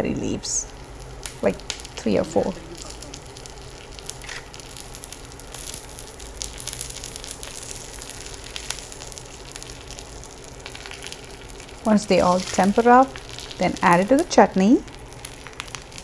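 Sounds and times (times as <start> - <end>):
seeds sizzling in hot oil: 0.2 - 16.0
small crackles and pops: 0.2 - 16.0.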